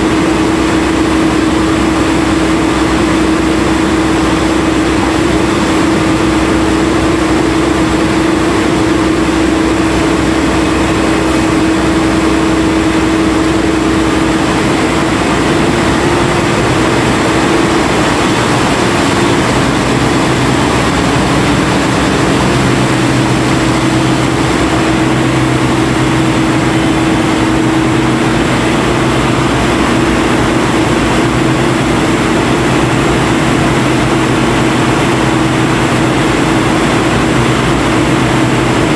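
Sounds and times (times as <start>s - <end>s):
dredge boat engine humming: 0.0s - 38.9s
lower hum: 0.0s - 38.9s.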